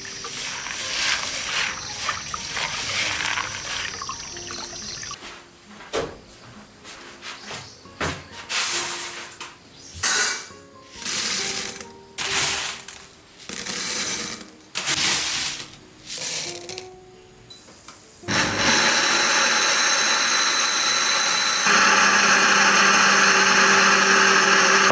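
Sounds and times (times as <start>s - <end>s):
soft background music: 0.0s - 20.6s.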